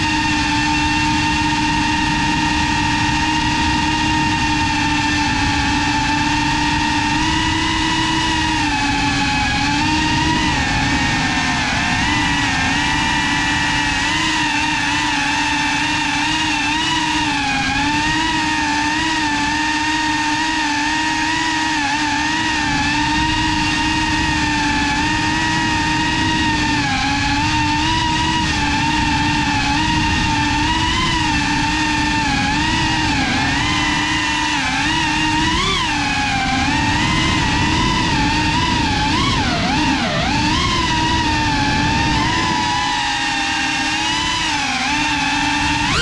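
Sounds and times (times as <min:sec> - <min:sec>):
drone motors whining: 0:00.0 - 0:46.0.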